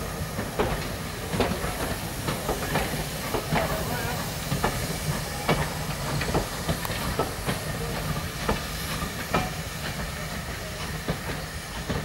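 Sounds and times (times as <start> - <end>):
low rumble of train: 0.0 - 12.0
steam hissing: 0.0 - 12.0
wheels clicking and clanking on track: 0.0 - 12.0.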